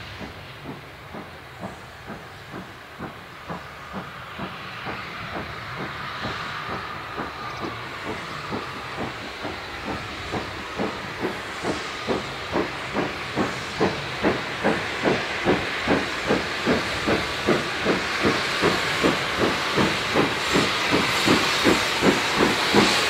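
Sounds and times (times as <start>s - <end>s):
hiss of steam: 0.0s - 23.0s
steam locomotive exhaust beating: 0.0s - 23.0s.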